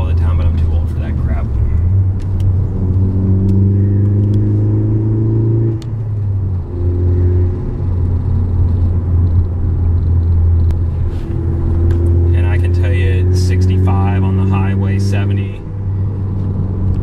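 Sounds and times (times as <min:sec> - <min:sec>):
car engine hum from inside cabin: 0:00.0 - 0:17.0.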